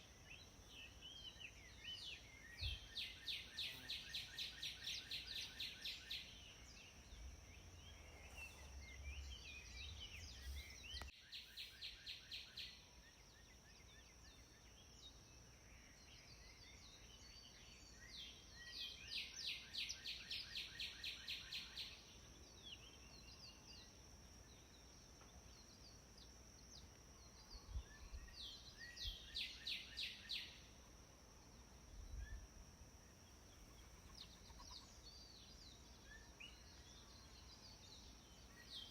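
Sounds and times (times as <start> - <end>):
steady high-pitched hiss: 0.0 - 38.9.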